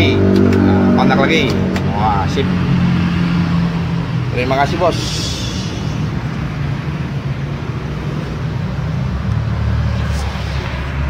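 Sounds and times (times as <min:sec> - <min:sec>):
diesel engine idling: 0:00.0 - 0:09.6.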